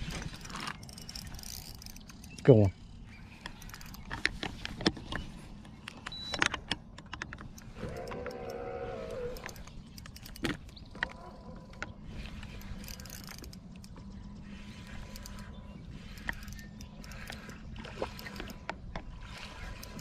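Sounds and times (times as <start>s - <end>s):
fishing gear clicking and knocking: 0.0s - 20.0s.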